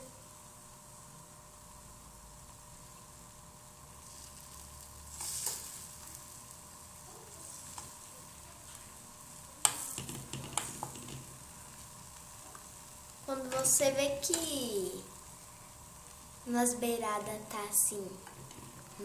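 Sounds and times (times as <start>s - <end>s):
batter sizzling in a pan: 0.0s - 19.0s.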